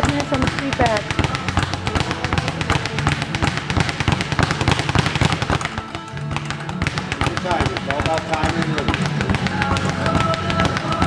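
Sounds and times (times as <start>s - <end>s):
background music: 0.0s - 11.0s
speed bag rattling: 0.0s - 11.0s.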